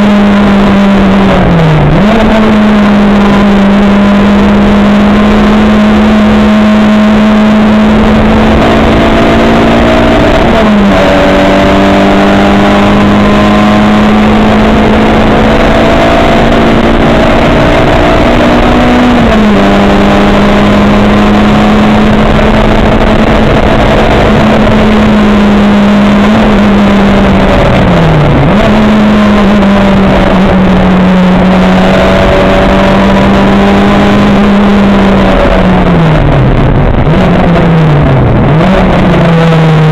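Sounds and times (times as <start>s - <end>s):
racing car engine at high revs: 0.0s - 39.9s
road and wind noise: 0.0s - 39.9s.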